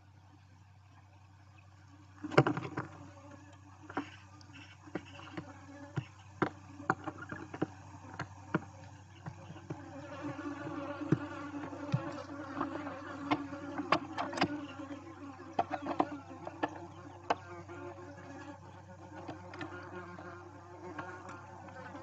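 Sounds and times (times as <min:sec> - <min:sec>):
low buzzing hum: 0:00.0 - 0:22.0.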